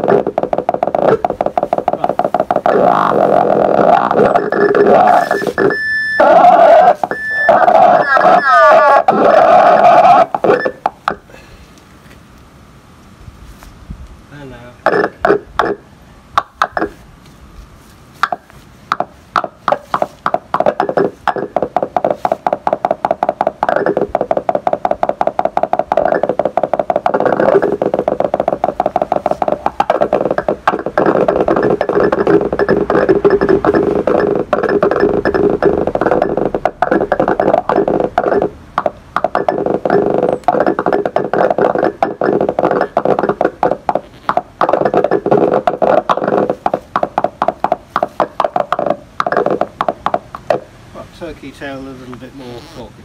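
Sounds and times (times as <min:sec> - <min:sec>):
rapid electronic tone pulses: 0:00.0 - 0:11.3, 0:14.8 - 0:17.0, 0:18.2 - 0:50.8.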